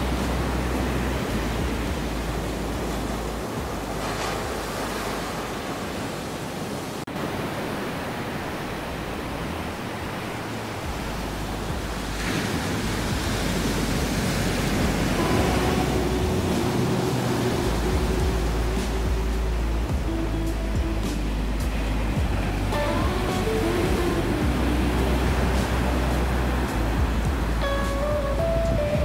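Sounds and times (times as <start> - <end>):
ocean surf on a beach: 0.0 - 29.0.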